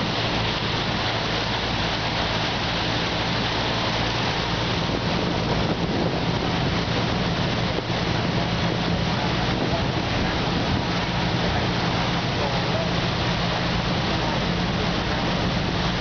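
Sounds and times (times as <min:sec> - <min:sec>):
bus engine hum: 0:00.0 - 0:16.0
water rushing and churning: 0:00.0 - 0:16.0.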